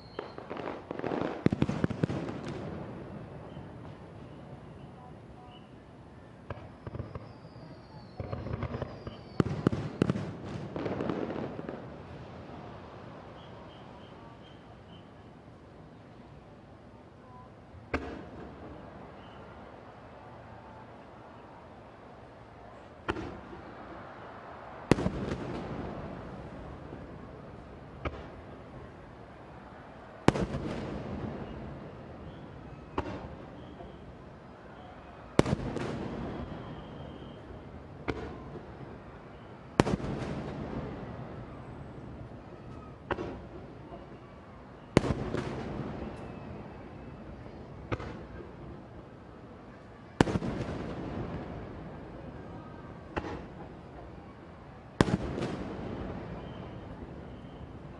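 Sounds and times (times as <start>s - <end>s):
fireworks bursting with bangs: 0.0s - 5.7s, 6.4s - 15.0s, 17.8s - 19.8s, 22.7s - 29.3s, 29.9s - 49.2s, 50.1s - 54.2s, 54.9s - 57.9s
small fireworks pops: 0.0s - 5.7s, 6.4s - 15.2s, 17.8s - 19.9s, 22.7s - 29.0s, 30.2s - 57.9s.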